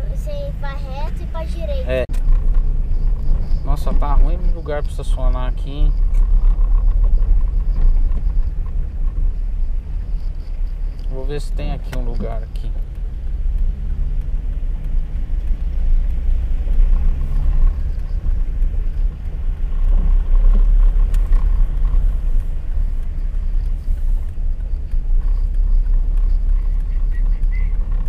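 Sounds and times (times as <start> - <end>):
car engine rumble: 0.0 - 28.0
tyre noise on wet road: 0.0 - 28.0.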